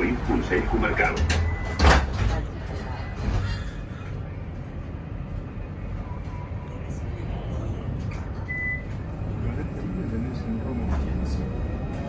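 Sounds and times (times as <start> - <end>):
tram rumble: 0.0 - 12.0.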